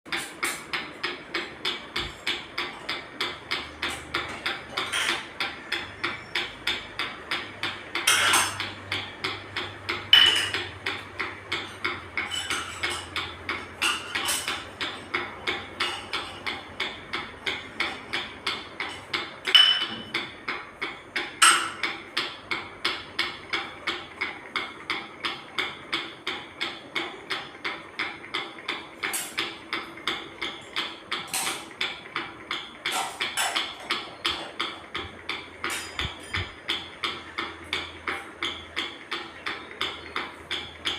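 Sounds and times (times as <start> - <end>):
ceiling fan ticking: 0.1 - 40.9.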